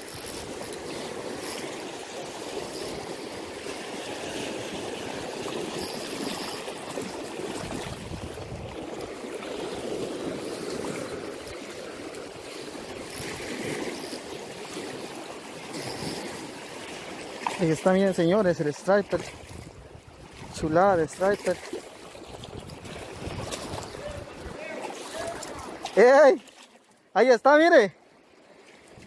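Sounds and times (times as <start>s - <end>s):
turbulent water rushing: 0.0s - 27.9s.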